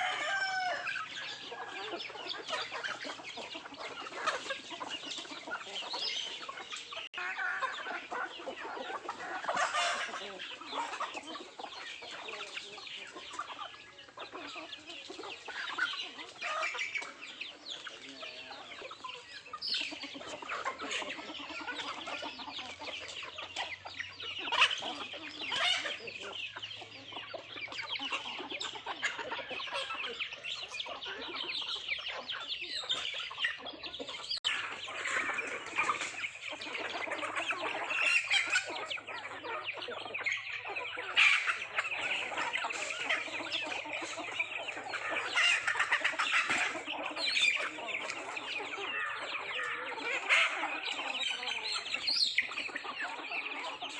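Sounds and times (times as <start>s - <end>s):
hens clucking: 0.0s - 53.9s.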